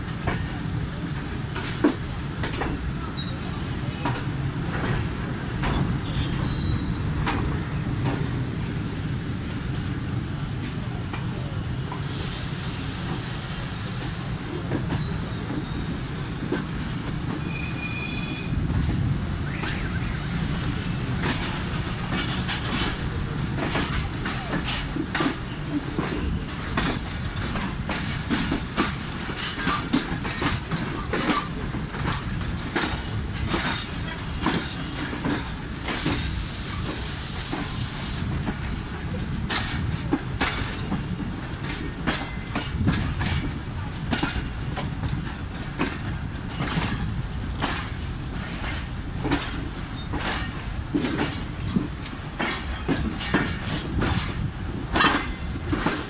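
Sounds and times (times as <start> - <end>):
wheels clacking over rail joints: 0.0 - 12.1, 14.0 - 56.0
train rumbling: 0.0 - 56.0.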